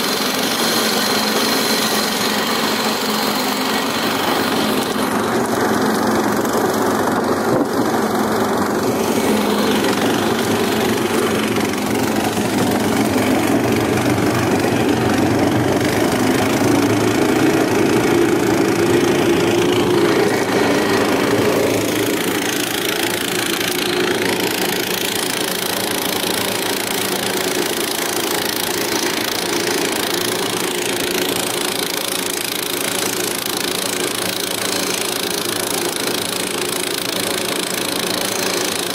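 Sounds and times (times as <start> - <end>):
tracked vehicle engine running: 0.0 - 38.9.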